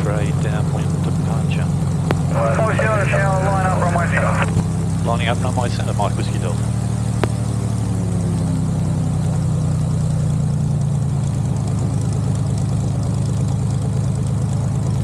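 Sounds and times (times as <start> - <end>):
light aircraft engine idling: 0.0 - 15.0.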